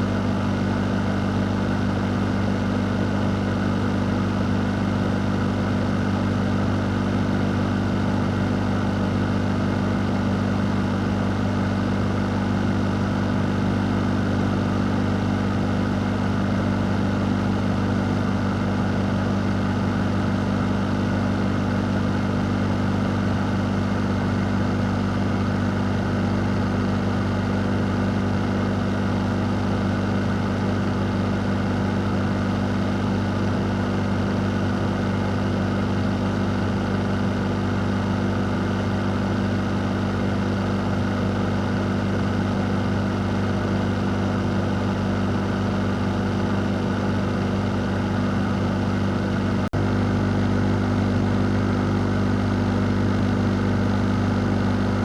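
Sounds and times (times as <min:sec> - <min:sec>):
fan running: 0:00.0 - 0:55.0.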